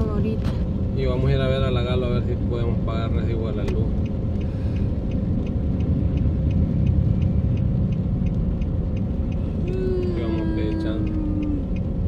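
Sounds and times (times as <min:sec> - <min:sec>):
car engine rumble: 0:00.0 - 0:12.0
tyres on wet road: 0:00.0 - 0:12.0
faint regular ticking: 0:01.0 - 0:12.0.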